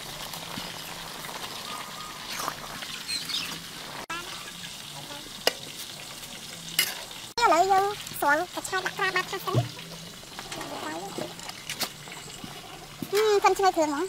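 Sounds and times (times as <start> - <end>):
greens sizzling in a wok: 0.0 - 14.0.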